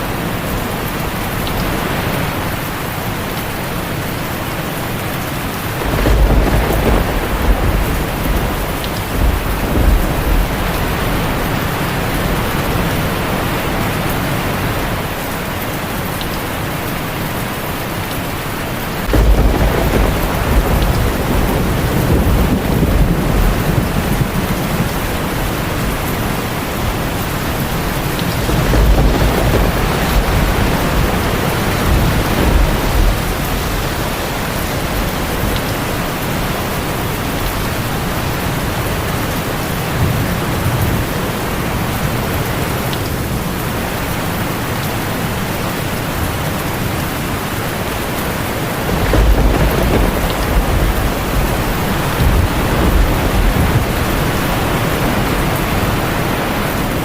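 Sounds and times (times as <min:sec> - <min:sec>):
heavy rain on a tin roof: 0:00.0 - 0:57.0
thunder rumbling: 0:04.9 - 0:57.0.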